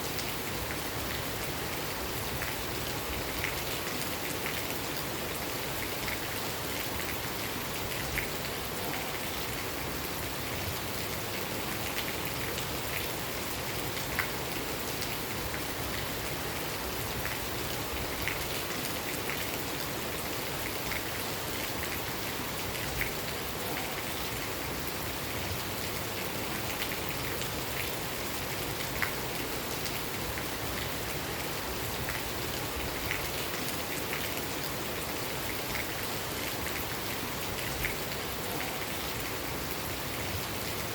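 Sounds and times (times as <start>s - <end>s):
steady rain hiss: 0.0s - 40.9s
raindrops ticking on a surface: 0.1s - 40.9s.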